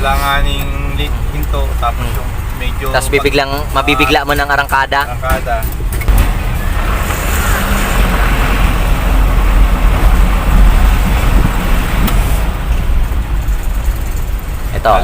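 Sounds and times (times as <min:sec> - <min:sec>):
diesel truck engine accelerating: 0:00.0 - 0:15.0
road noise: 0:00.0 - 0:15.0.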